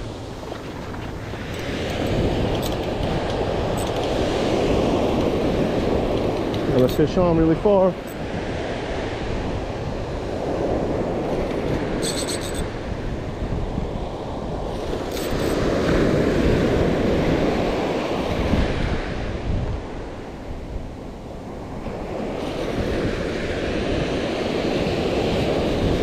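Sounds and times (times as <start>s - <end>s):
surf washing onto beach: 0.0s - 12.1s, 12.7s - 26.0s
wind buffeting microphone: 0.0s - 26.0s.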